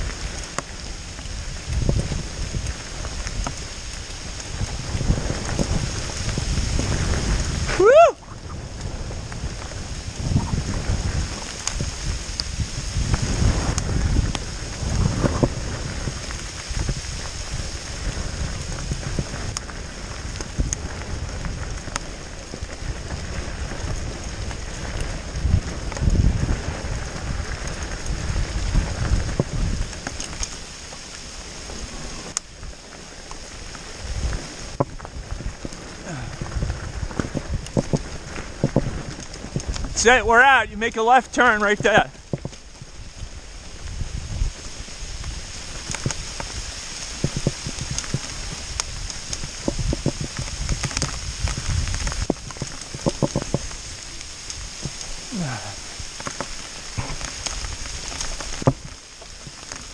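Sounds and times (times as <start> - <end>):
bike rolling rumble: 0.0 - 59.9
steady rain hiss: 0.0 - 59.9.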